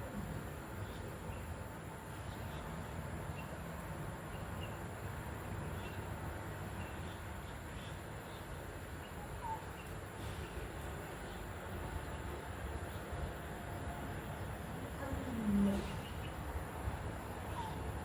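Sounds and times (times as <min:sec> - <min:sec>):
small bird chirping: 0:00.0 - 0:03.6, 0:04.2 - 0:13.1, 0:14.4 - 0:16.6, 0:17.3 - 0:18.0.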